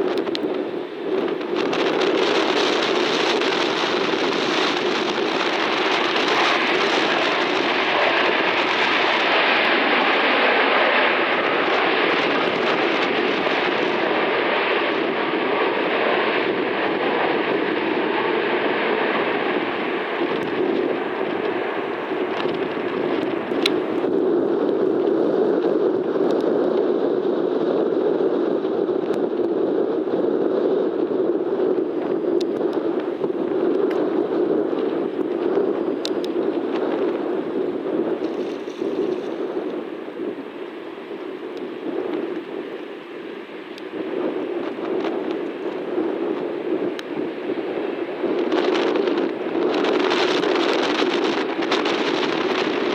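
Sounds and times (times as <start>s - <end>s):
jet airliner roar: 0.0s - 52.9s
wind buffeting microphone: 0.0s - 52.9s.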